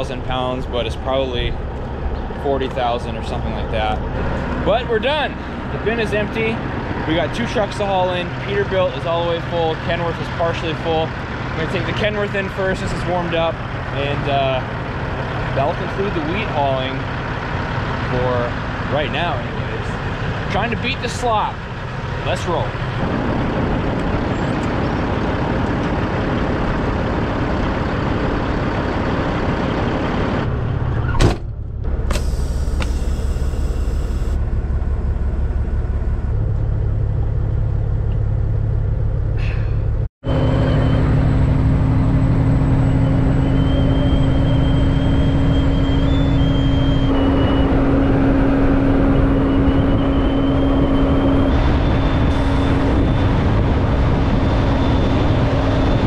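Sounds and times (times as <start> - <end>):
diesel truck engine: 0.0 - 56.0.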